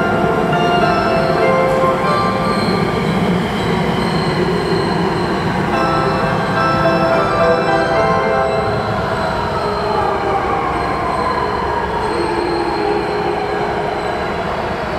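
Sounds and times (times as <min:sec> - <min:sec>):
train brakes squealing: 0:00.0 - 0:14.9
train rumble: 0:00.0 - 0:14.9.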